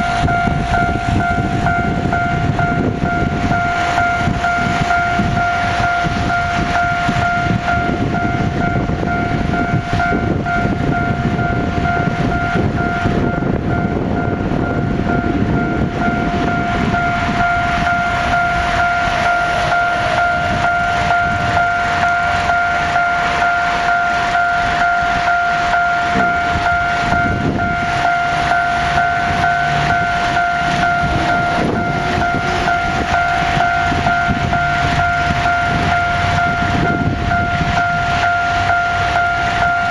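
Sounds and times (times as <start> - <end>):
continuous warning tone: 0.0 - 39.9
freight train wagons clattering: 0.0 - 39.9.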